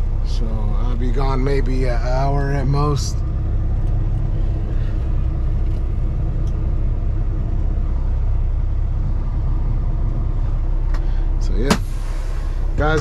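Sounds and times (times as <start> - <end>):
diesel truck engine drone: 0.0 - 13.0
road noise: 0.0 - 13.0.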